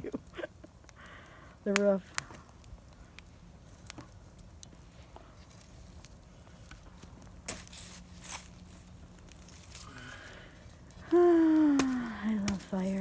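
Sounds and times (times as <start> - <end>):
bonfire crackling: 0.0 - 13.0
bonfire snaps and pops: 0.0 - 13.0.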